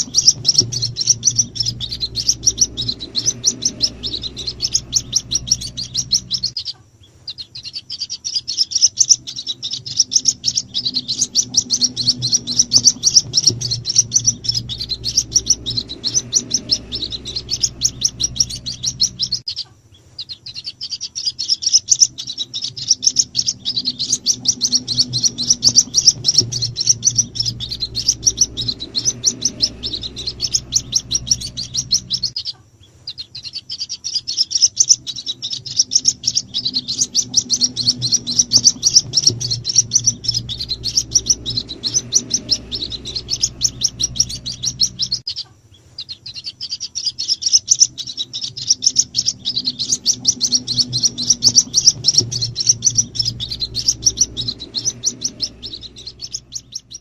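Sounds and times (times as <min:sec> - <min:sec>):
chicks cheeping: 0:00.0 - 0:57.0
steady low hum: 0:00.0 - 0:57.0.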